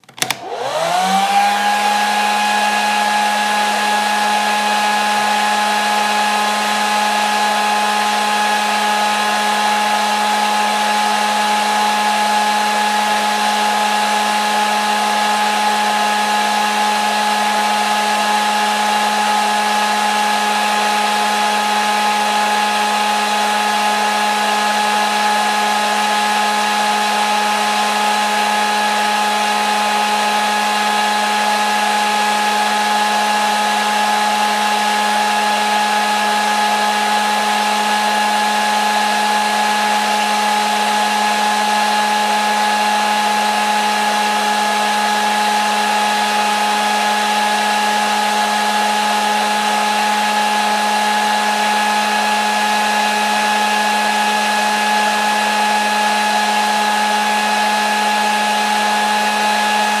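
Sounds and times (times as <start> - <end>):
hair dryer running: 0.0 - 60.0.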